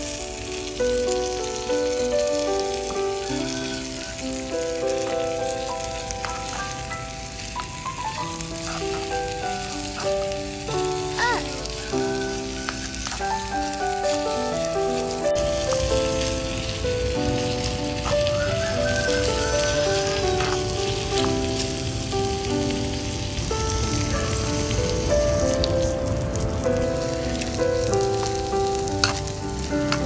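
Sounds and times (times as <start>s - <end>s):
background music with held notes: 0.0s - 30.0s
meat sizzling in a pot: 0.0s - 30.0s.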